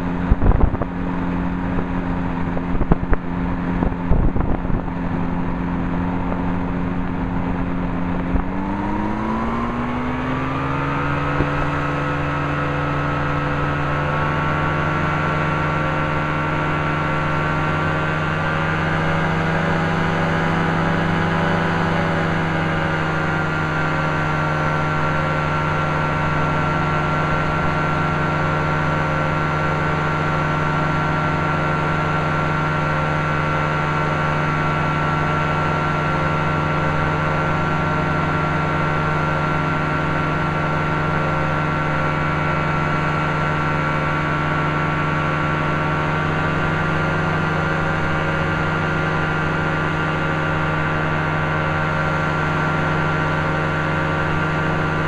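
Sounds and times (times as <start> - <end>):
engine and propeller droning: 0.0 - 55.0.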